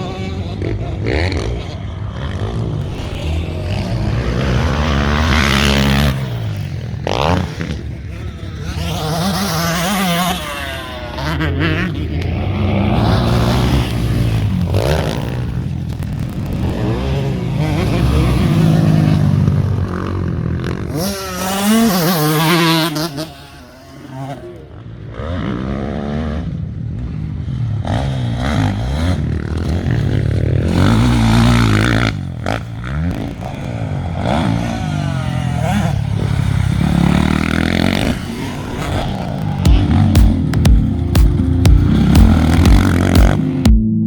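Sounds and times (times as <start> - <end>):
motorbike engines revving: 0.0 - 43.8.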